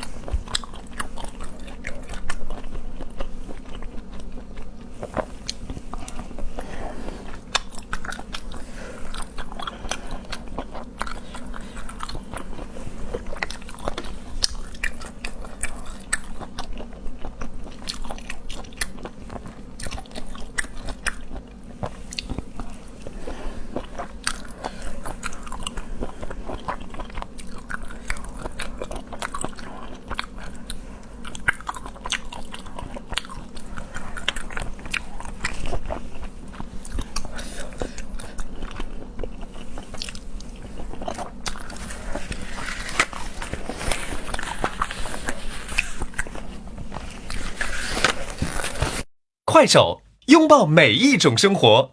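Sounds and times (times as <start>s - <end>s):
chewing and crunching seafood: 0.0s - 48.2s.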